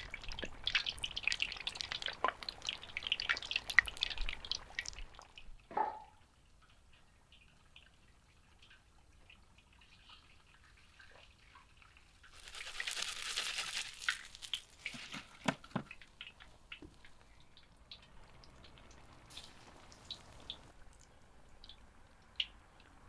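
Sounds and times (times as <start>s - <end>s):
frying oil popping and crackling: 0.0s - 5.7s, 6.5s - 23.0s
oil deep-frying sizzle: 0.0s - 23.0s.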